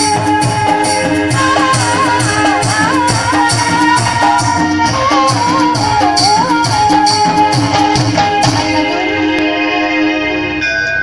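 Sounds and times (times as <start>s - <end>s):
jingling percussion: 0.0s - 8.8s, 10.6s - 11.0s
steady drum beat: 0.0s - 9.0s
folk dance music: 0.0s - 11.0s
wavering melody: 0.0s - 11.0s.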